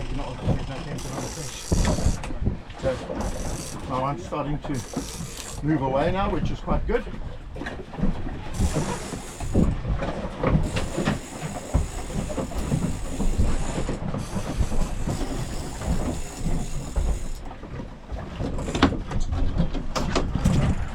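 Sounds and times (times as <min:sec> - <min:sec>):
boat engine rumbling: 0:00.0 - 0:20.9.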